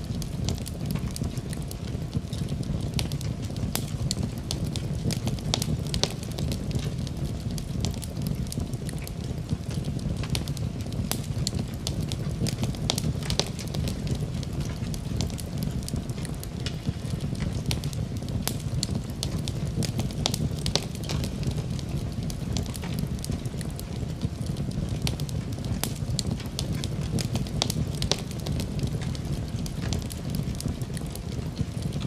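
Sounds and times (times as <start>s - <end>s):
low rumble of burning: 0.0s - 32.0s
wood fire crackling: 0.0s - 32.0s.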